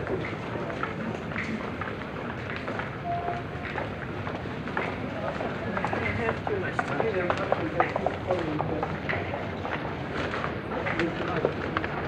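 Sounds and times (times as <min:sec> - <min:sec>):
crowd chatter: 0:00.0 - 0:12.0
footsteps on pavement: 0:00.0 - 0:12.0.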